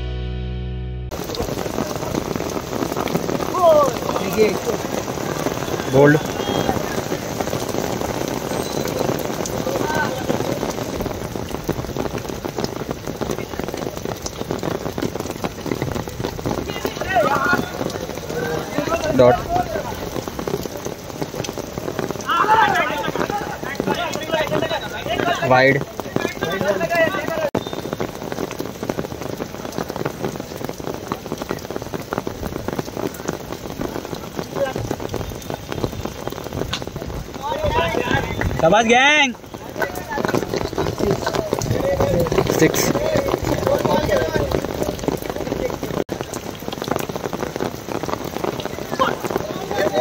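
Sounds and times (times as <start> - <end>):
rain falling on puddles: 1.1 - 50.0.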